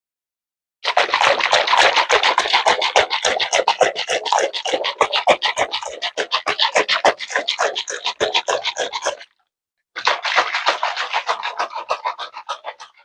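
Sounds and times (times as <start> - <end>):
dressing sloshing in shaken container: 0.8 - 9.2, 10.0 - 13.0.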